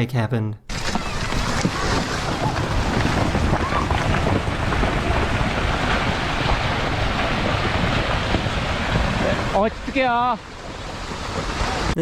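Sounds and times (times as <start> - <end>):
wind buffeting microphone: 0.7 - 12.0.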